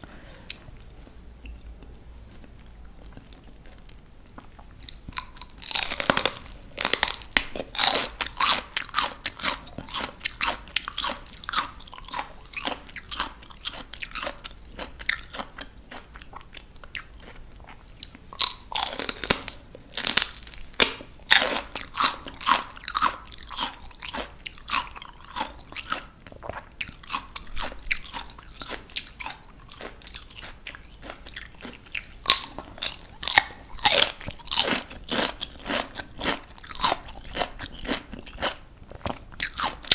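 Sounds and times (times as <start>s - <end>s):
crunchy chewing: 0.5s - 39.9s
crisp vegetable bite: 3.2s - 17.8s, 18.4s - 39.9s.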